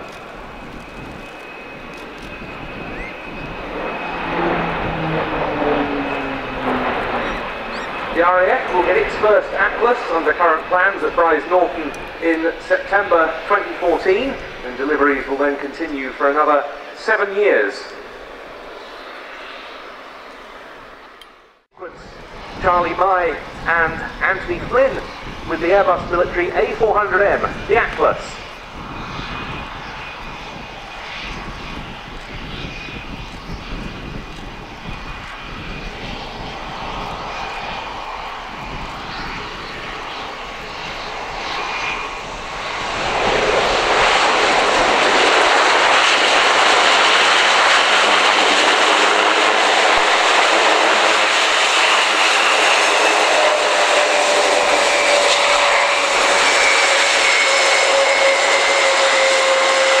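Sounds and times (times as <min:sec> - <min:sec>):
steady whine: 0:00.0 - 0:32.4, 0:33.0 - 1:00.0
turboprop engines running: 0:00.0 - 1:00.0.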